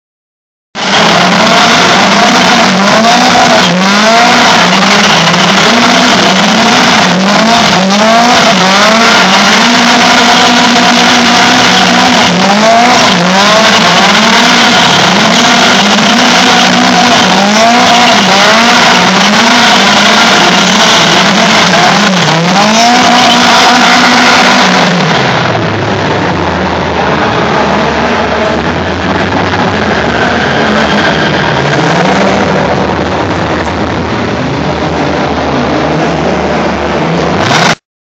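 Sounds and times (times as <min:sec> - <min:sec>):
car engine revving: 0:00.7 - 0:37.8.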